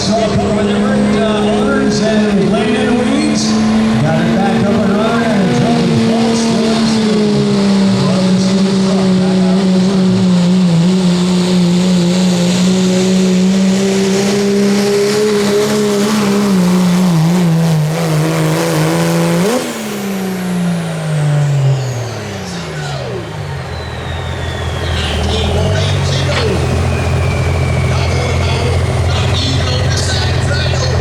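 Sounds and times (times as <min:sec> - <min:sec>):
truck engine at high revs: 0:00.0 - 0:31.0.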